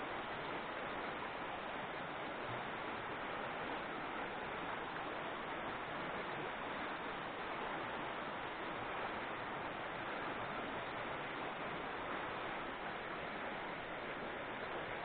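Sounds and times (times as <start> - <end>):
river rushing over gravel: 0.0 - 15.0.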